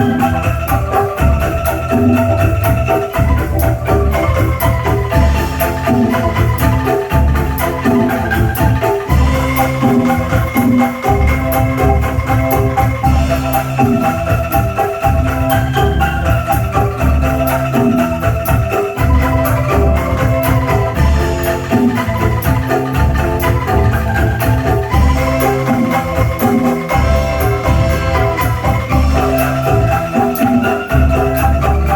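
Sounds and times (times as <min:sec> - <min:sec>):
bamboo angklung notes: 0:00.0 - 0:31.9
fast high ticking rhythm: 0:00.0 - 0:31.9.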